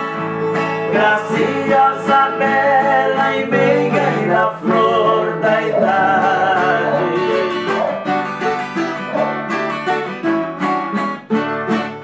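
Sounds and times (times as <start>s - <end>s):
acoustic guitar chords: 0.0s - 12.0s
plucked viola melody: 0.0s - 12.0s.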